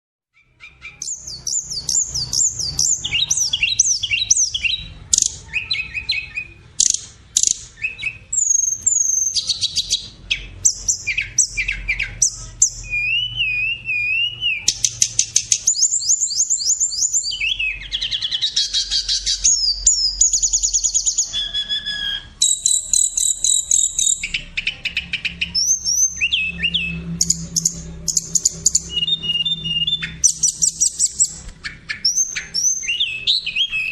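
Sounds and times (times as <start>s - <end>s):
cockatiel chattering and whistling: 0.3s - 33.9s.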